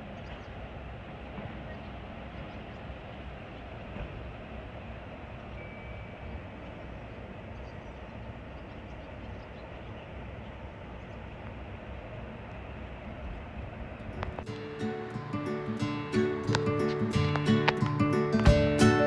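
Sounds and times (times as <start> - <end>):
outdoor background rumble: 0.0 - 19.0.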